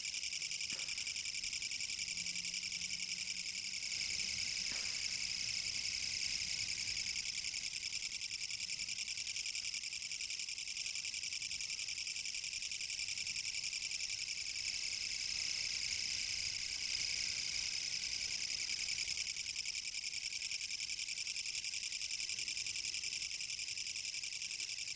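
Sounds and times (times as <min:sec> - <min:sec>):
katydid stridulating: 0:00.0 - 0:24.9.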